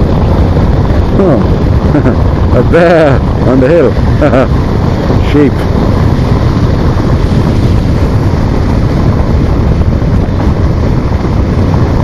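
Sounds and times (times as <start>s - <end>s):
motorcycle running: 0.0s - 12.0s
road noise: 0.0s - 12.0s
wind buffeting microphone: 0.0s - 12.0s.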